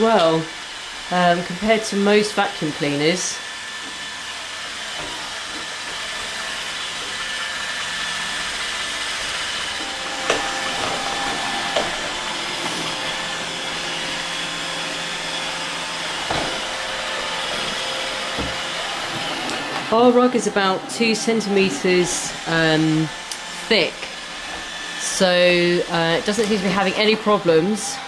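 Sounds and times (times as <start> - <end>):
robot vacuum whirring: 0.0 - 28.0.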